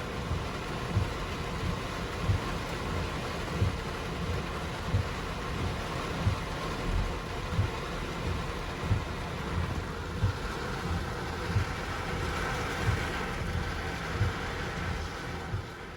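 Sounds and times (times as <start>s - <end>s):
heavy rain hissing: 0.0s - 15.9s
traffic noise: 0.0s - 15.9s
dull low thump: 0.3s - 2.6s, 4.9s - 15.8s.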